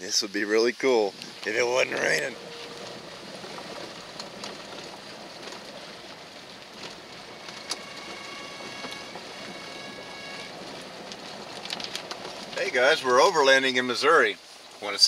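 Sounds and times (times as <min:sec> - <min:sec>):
tyre and road noise on gravel: 0:00.0 - 0:15.0.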